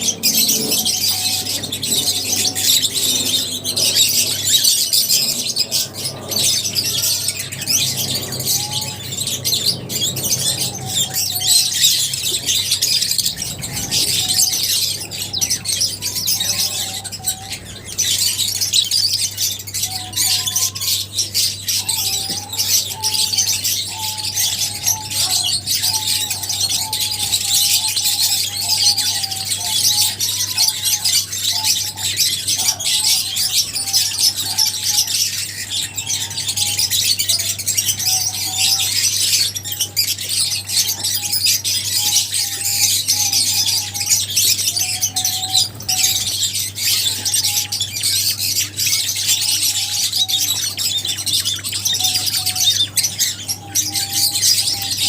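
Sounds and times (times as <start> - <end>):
lovebirds chirping and squawking: 0.0 - 55.0
steady low hum: 0.0 - 55.0.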